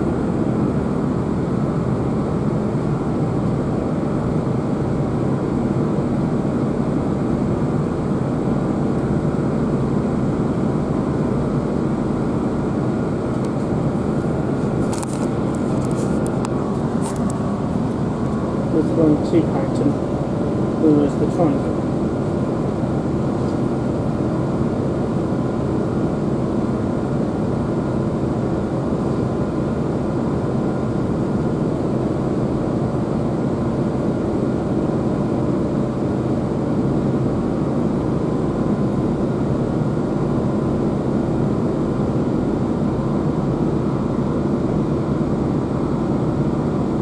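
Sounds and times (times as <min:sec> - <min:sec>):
diesel engine drone: 0:00.0 - 0:47.0.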